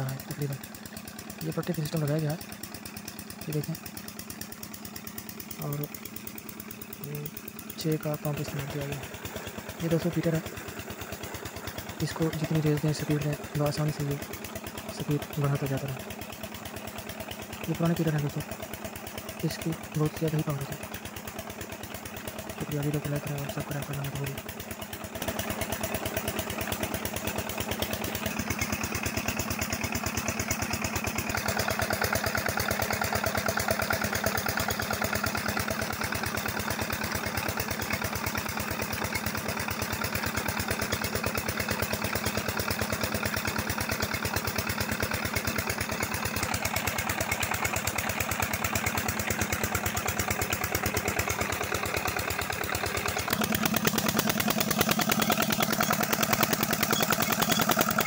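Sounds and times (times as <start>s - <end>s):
diesel engine running steadily: 0.0s - 58.0s
water pump: 0.0s - 58.0s.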